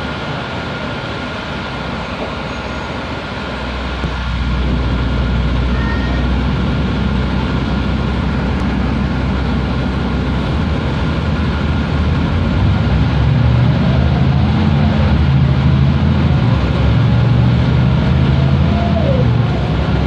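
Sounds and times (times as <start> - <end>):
bus diesel engine: 0.0 - 20.0
road noise: 0.0 - 20.0.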